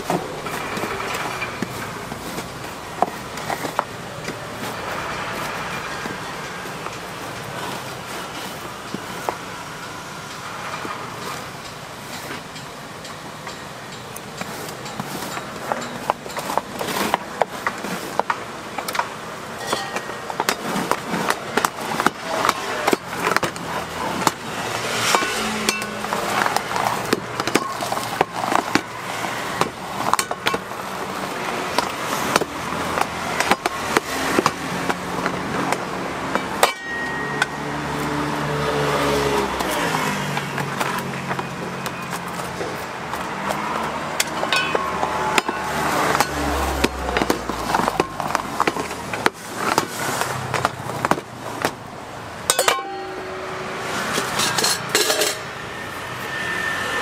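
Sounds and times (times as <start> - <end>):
wooden paddle scraping metal tray: 0.0 - 9.5, 14.2 - 51.8, 52.5 - 57.0.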